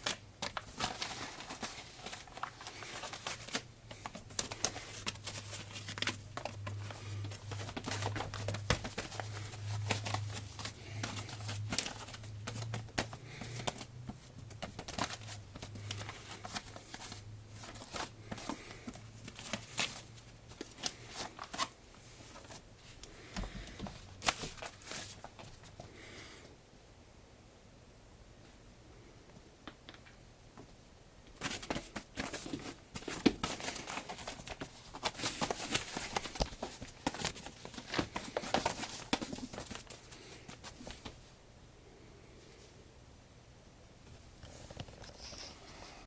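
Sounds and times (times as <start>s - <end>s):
cat crinkling and rustling: 0.0s - 26.2s, 31.3s - 41.4s, 44.2s - 46.0s.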